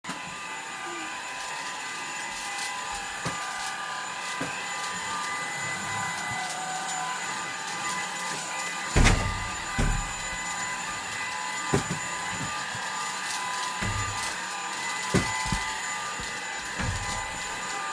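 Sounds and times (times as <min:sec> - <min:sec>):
vacuum cleaner running: 0:00.0 - 0:17.9.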